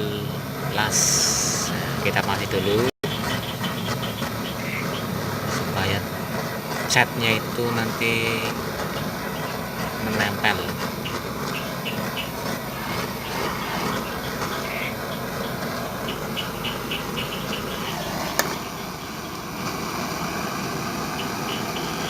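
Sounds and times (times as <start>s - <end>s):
insects chirping in trills: 0.0s - 19.5s, 20.8s - 22.0s
heating tool rushing: 0.0s - 22.0s.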